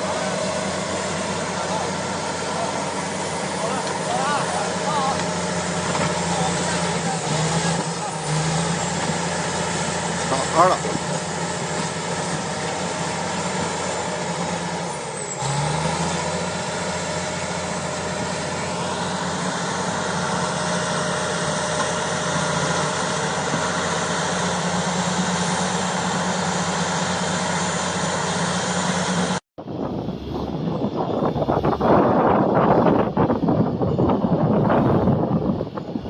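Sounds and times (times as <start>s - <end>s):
bulldozer diesel engine running: 0.0s - 36.0s
windy sound: 0.0s - 36.0s.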